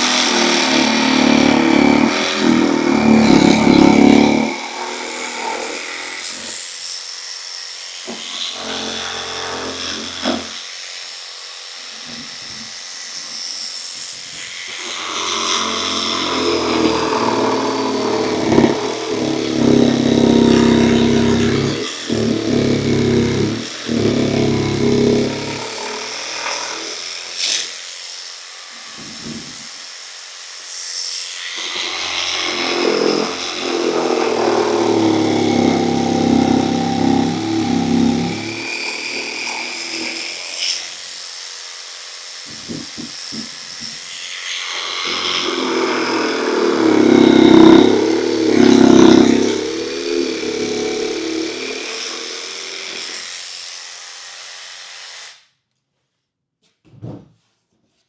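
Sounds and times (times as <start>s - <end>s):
electric jigsaw cutting: 0.0s - 55.4s.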